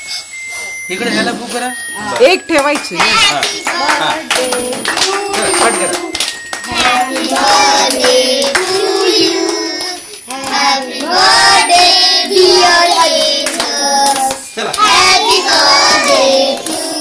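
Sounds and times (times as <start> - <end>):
people clapping along: 2.1 - 17.0
group singing together: 3.4 - 17.0.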